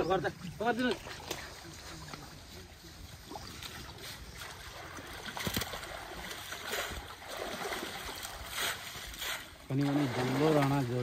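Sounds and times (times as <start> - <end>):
pond water sloshing and splashing: 0.0 - 11.0.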